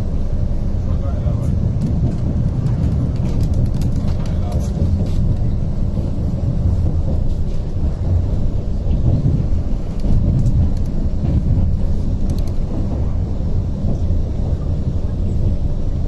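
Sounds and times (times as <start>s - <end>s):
wheel and rail noise: 0.0s - 16.0s.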